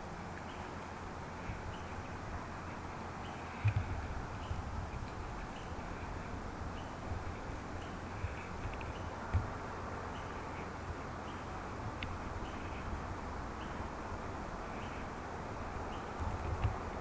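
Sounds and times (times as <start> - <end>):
wind hiss: 0.0 - 17.0
distant bird calls: 0.3 - 16.8.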